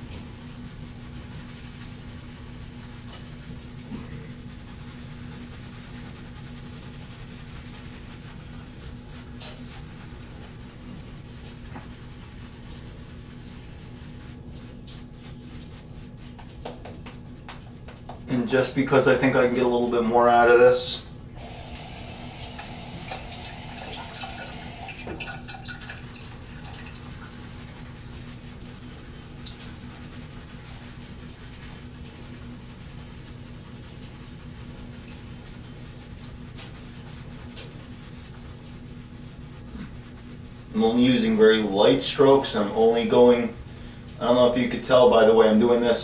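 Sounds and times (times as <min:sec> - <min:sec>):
low background hum: 0:00.0 - 0:46.0
shaving brush scrubbing lather: 0:00.2 - 0:20.7, 0:21.4 - 0:43.6, 0:44.2 - 0:46.0.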